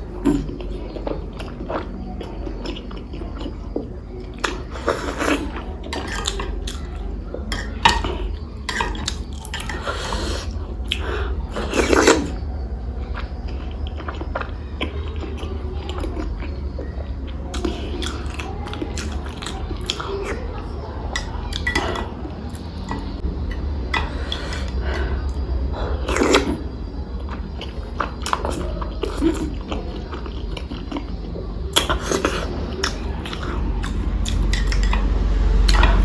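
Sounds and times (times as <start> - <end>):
chewing food: 0.0 - 12.4, 13.0 - 36.0.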